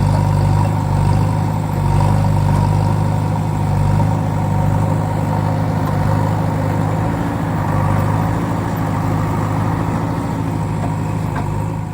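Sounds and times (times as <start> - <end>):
truck engine idling: 0.0 - 11.9.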